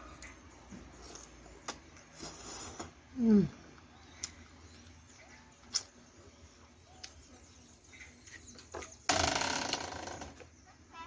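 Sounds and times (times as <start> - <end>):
faint squeaky squelches: 0.0 - 9.1, 10.3 - 11.0.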